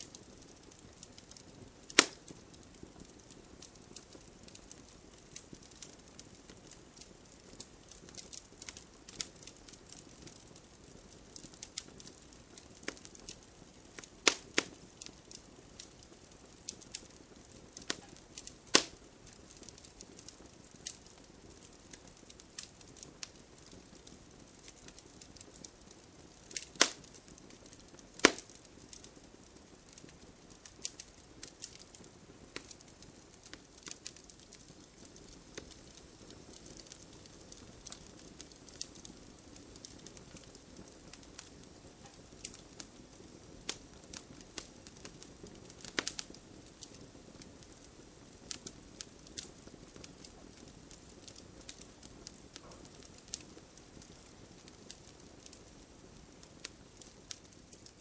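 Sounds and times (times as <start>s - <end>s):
loud fire pops: 0.0s - 55.6s
wood fire crackling: 0.0s - 58.0s.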